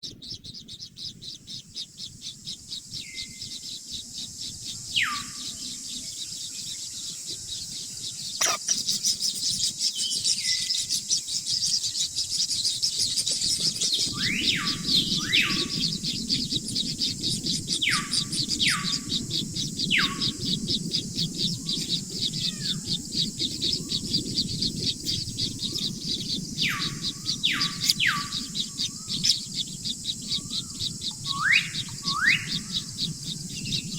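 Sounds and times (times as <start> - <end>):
nestlings chirping: 0.0 - 33.9.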